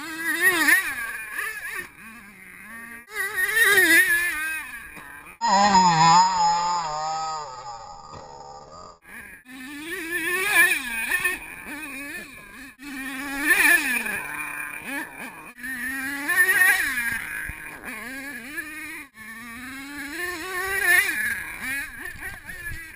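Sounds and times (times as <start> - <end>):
small nitro engine revving: 0.0 - 22.9.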